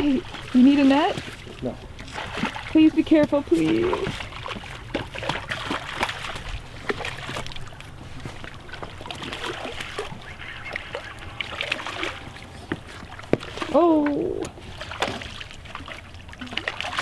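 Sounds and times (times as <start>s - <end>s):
steady low rumble: 0.0s - 16.5s
fish splashing in water: 0.0s - 17.0s.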